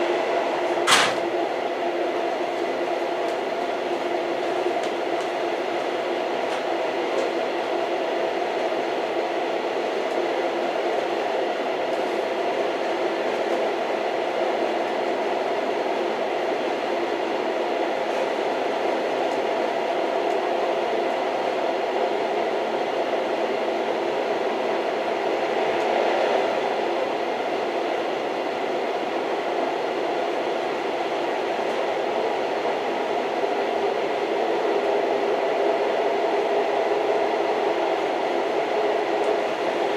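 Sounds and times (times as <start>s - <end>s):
train wheels on track: 0.0s - 39.9s.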